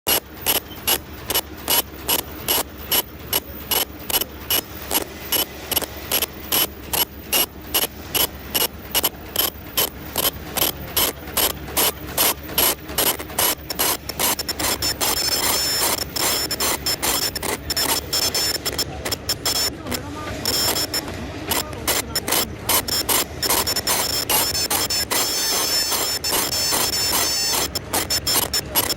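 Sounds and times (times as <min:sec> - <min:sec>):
high whine: 0:00.1 - 0:28.9
machine clacking: 0:00.1 - 0:28.9.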